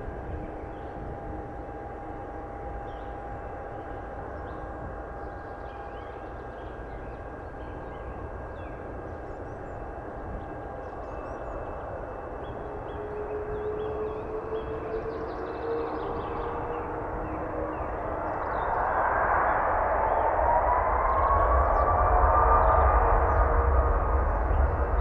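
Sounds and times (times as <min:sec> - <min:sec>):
jet engines whining at low thrust: 0:00.0 - 0:25.0.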